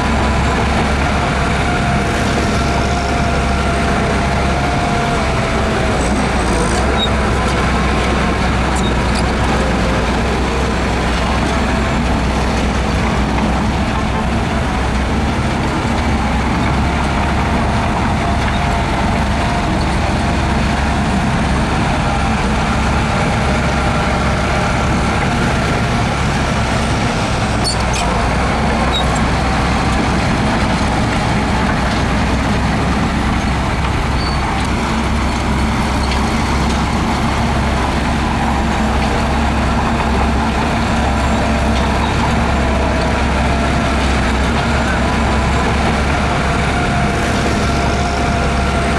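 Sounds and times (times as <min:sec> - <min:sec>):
diesel engine of heavy machinery: 0:00.0 - 0:48.9.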